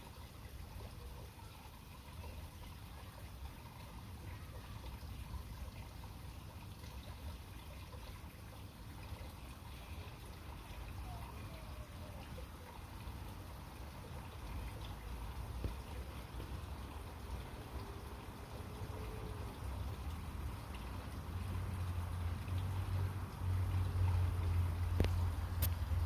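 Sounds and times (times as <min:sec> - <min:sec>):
faint water trickling: 0:00.0 - 0:26.0.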